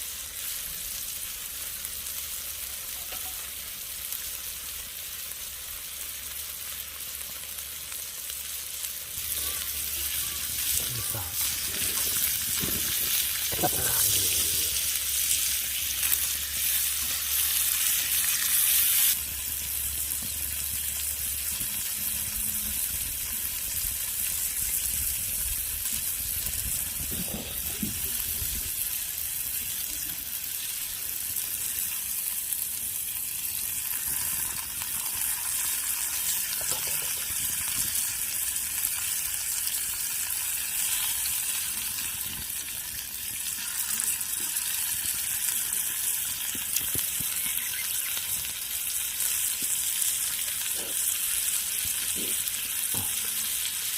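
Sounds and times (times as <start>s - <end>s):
pork sizzling on a griddle: 0.0s - 53.9s.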